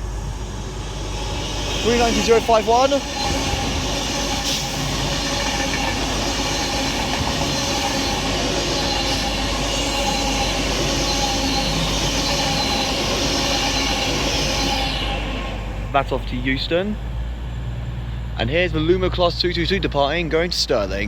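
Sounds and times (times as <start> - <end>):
electric train passing: 0.0 - 20.4.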